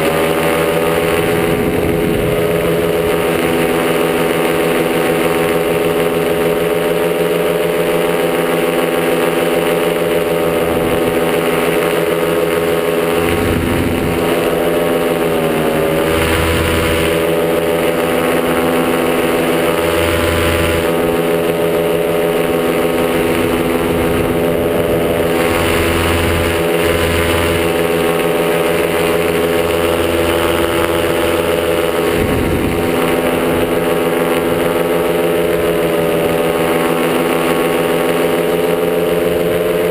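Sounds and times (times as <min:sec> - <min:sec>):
paramotor engine running: 0:00.0 - 0:39.9
wind buffeting microphone: 0:00.0 - 0:39.9.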